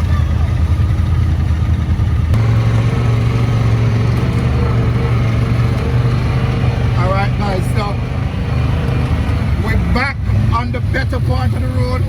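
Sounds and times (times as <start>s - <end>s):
atv engine droning: 0.0s - 12.0s.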